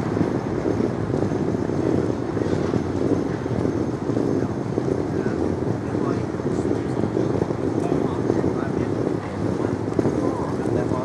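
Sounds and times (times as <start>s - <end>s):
low rumble of city ambience: 0.0s - 11.0s.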